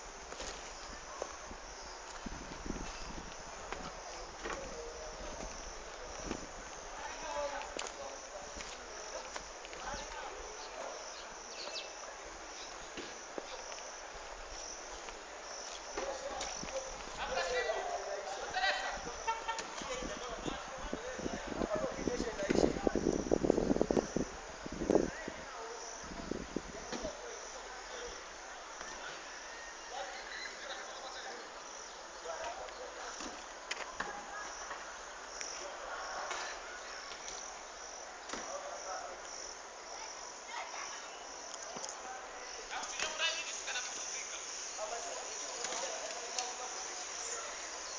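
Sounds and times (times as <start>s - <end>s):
insects chirping: 0.0s - 47.9s
steady background hiss: 0.0s - 47.9s.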